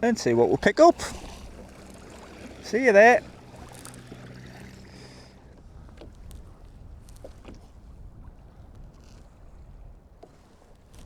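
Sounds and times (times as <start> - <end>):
wind rumble: 0.0 - 10.2
sea water around kayak: 0.0 - 11.0.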